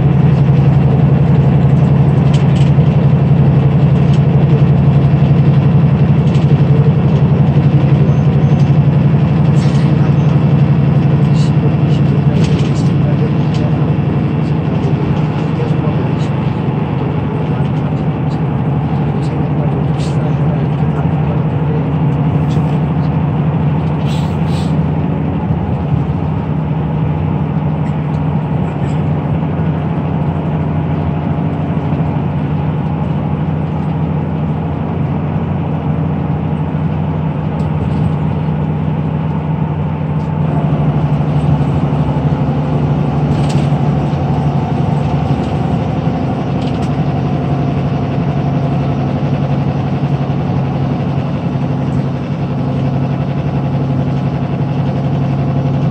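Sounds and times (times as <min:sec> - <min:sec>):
bus engine drone: 0:00.0 - 0:55.9
tyre and road noise: 0:00.0 - 0:55.9.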